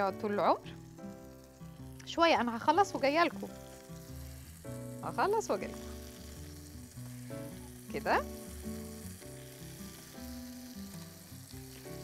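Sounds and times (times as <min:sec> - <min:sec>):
patties sizzling in a pan: 0:00.0 - 0:12.0.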